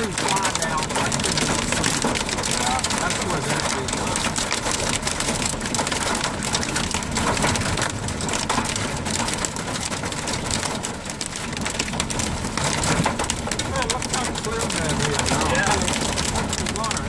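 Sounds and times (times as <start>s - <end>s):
hailstones clattering: 0.0s - 17.0s.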